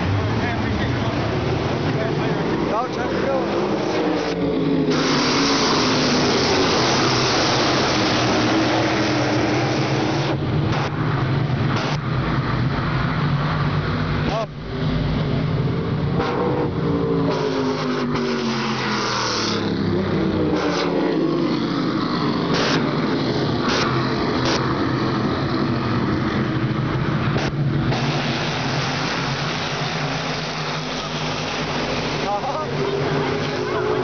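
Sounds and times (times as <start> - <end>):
race car engines droning: 0.0 - 34.0
race cars passing by: 0.0 - 34.0.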